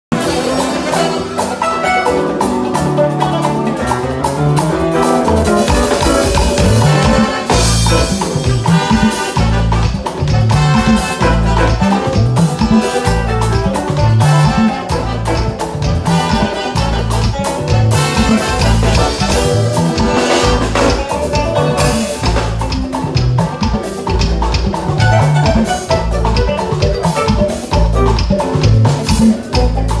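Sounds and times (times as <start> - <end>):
congas: 0.1 - 30.0
drum kit beat: 0.1 - 30.0
electric guitar: 0.1 - 30.0
keyboard chords: 0.1 - 30.0
live band playing upbeat groove: 0.1 - 30.0
deep bass notes: 0.2 - 30.0.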